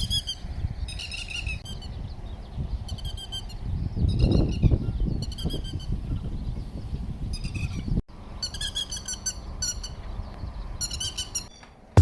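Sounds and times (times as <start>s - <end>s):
high chirping calls: 0.0s - 11.8s.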